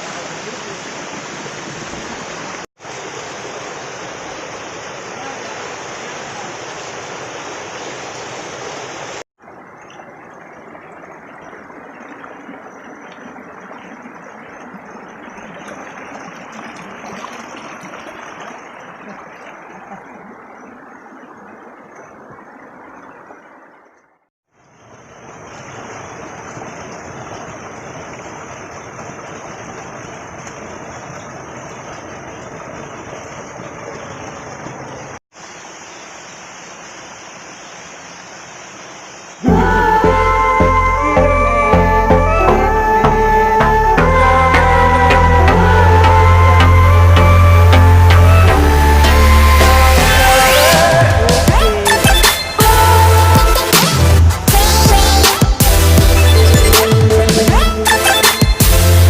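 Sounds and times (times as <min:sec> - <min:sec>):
waterfall rushing: 0:00.0 - 0:23.6, 0:24.8 - 0:59.0.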